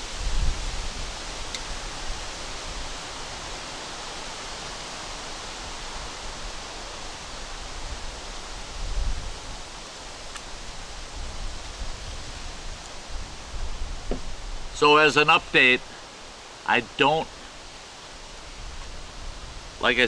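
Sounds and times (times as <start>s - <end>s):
wind gust rumbling on microphone: 0.0s - 20.0s.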